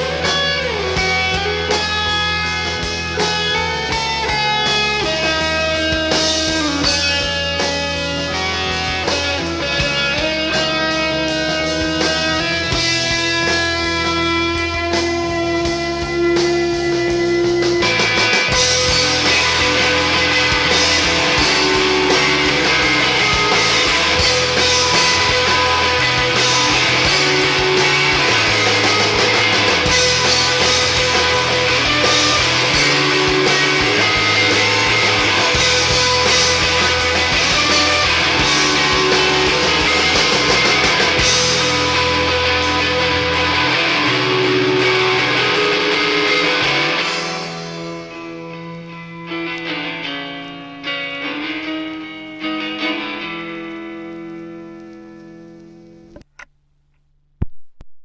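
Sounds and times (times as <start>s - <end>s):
melodic guitar: 0.0s - 56.2s
rock song from vinyl record: 0.0s - 56.3s.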